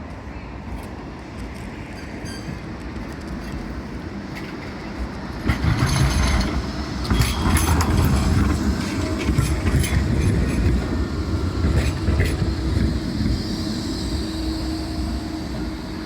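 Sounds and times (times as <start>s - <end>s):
tram rumbling: 0.0s - 16.0s
tram wheels clicking: 0.8s - 16.0s.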